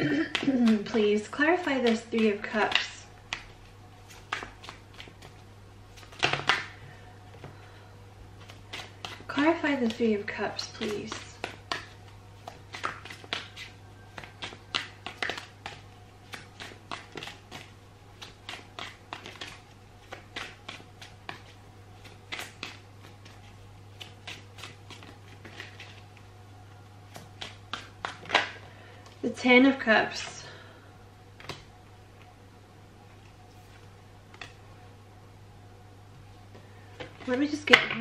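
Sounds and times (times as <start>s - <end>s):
faint steady hum: 0.0s - 38.0s
cards being shuffled: 0.1s - 7.6s, 8.4s - 26.3s, 27.0s - 29.2s, 31.4s - 32.3s, 33.1s - 34.6s, 36.5s - 38.0s.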